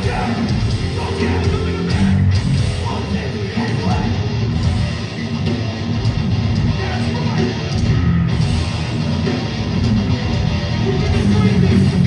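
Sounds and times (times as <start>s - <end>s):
bass guitar: 0.0s - 12.0s
distorted guitars: 0.0s - 12.0s
drums: 0.0s - 12.0s.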